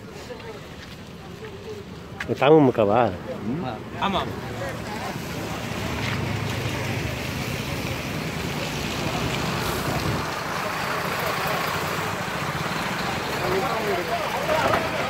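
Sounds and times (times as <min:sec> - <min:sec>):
crowd voices talking: 0:00.0 - 0:15.0.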